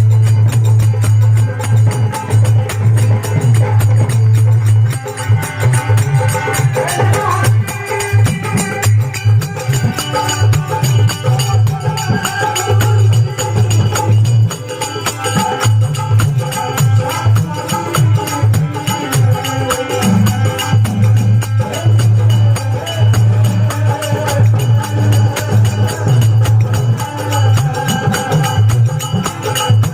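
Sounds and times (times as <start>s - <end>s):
hand drum beat: 0.0s - 29.9s
jingling hand percussion: 0.0s - 29.9s.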